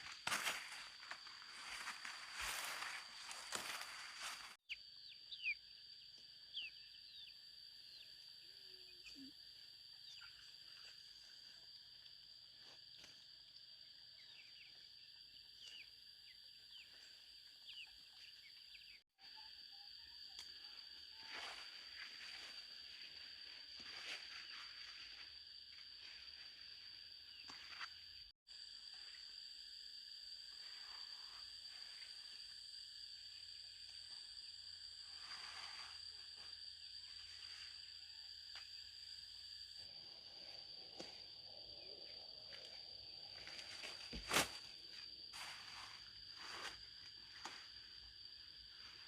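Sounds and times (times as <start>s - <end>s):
insects droning: 0.0s - 49.0s.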